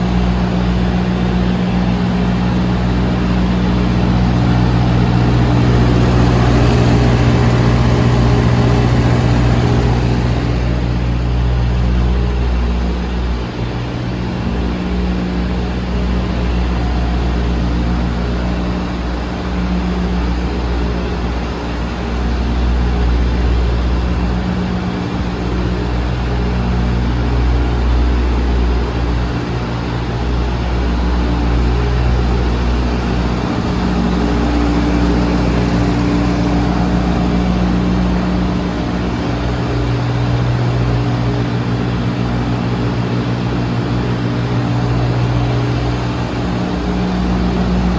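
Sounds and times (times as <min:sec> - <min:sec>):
diesel engine idling: 0:00.0 - 0:19.1, 0:28.6 - 0:47.9.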